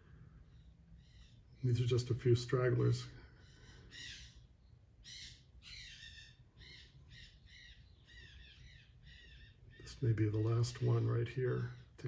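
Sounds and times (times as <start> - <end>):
harsh bird calls: 0.0 - 12.0.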